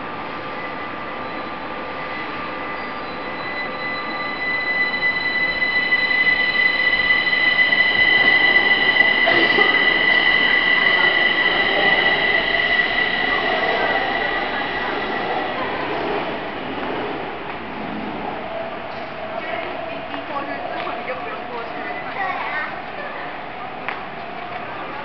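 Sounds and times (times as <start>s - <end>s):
metro train pulling out: 0.0s - 25.0s.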